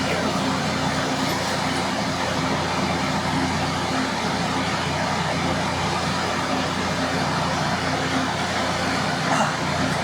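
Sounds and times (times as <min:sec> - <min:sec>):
forge blower rushing hum: 0:00.0 - 0:10.0.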